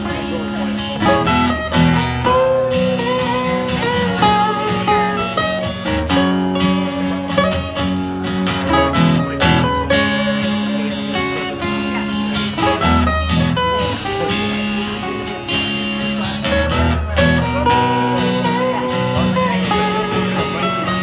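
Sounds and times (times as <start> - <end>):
guitar melody with bending notes: 0.0 - 21.0
strummed guitar chords: 0.0 - 21.0.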